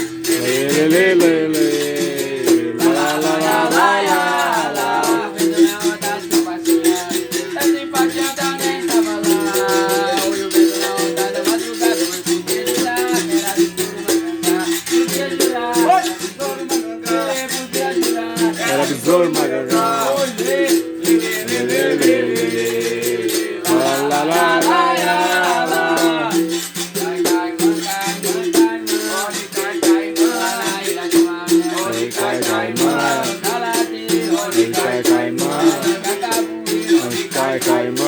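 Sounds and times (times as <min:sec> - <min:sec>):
person singing: 0:00.0 - 0:38.0
shaker rattle: 0:00.0 - 0:38.0.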